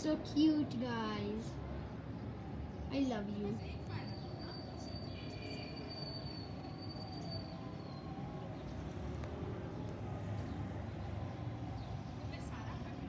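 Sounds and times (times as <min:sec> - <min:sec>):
distant vehicles rumbling: 0:00.0 - 0:13.0.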